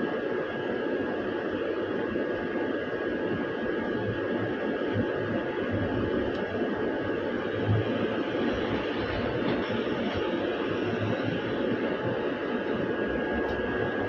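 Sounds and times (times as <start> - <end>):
bus cabin hum and hiss: 0.0 - 14.0
low hum pulses: 0.9 - 14.0.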